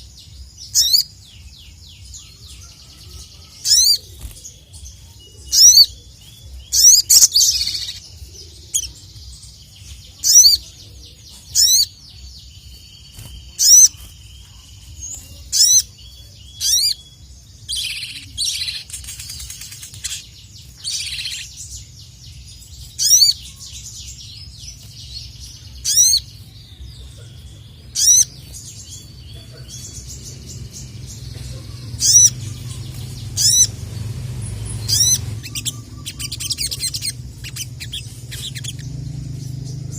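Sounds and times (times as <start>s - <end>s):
sunbird high-pitched calls: 0.0s - 39.9s.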